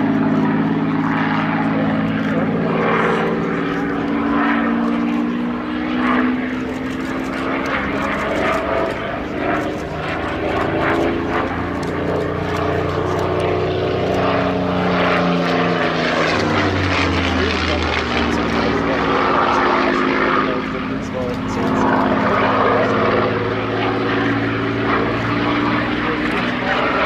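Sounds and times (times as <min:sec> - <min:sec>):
model aircraft motors whirring: 0:00.0 - 0:27.0.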